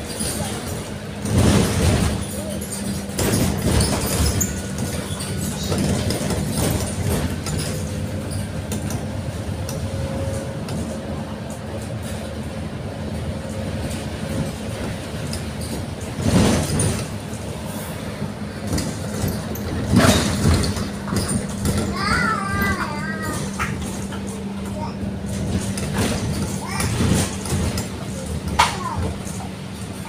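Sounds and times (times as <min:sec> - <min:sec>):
vehicle engine and road drone: 0:00.0 - 0:30.0.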